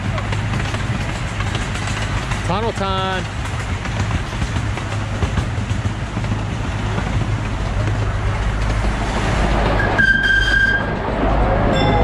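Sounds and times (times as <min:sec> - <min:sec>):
miniature train rumbling: 0:00.0 - 0:12.0.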